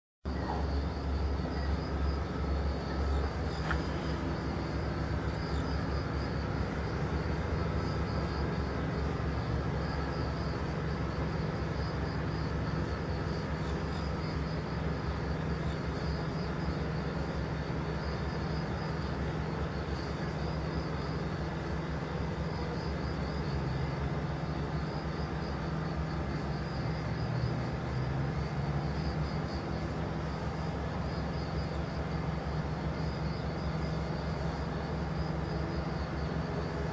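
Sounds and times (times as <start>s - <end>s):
constant low rumble: 0.3s - 36.9s
insects chirping: 0.3s - 36.9s.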